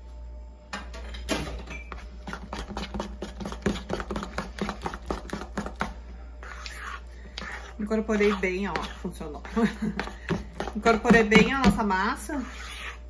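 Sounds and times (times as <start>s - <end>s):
spoon beating dough in metal bowl: 1.7s - 13.0s.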